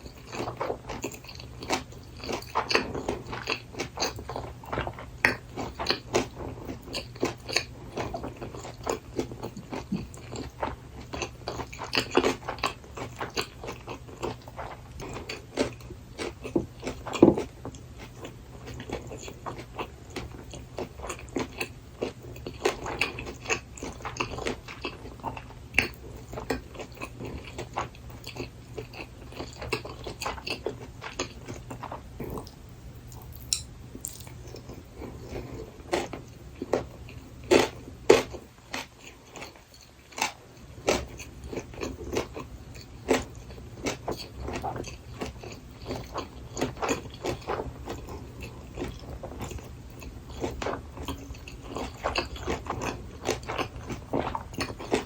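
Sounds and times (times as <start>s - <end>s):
chewing and biting food: 0.0s - 55.0s.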